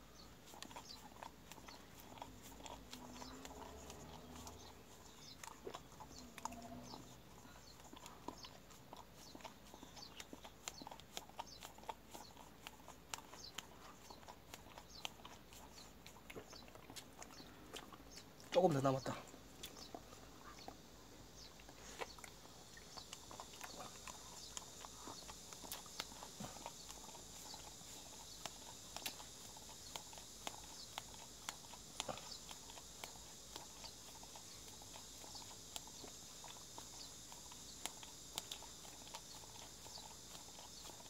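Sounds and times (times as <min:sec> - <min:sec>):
dog licking: 0:00.0 - 0:41.0.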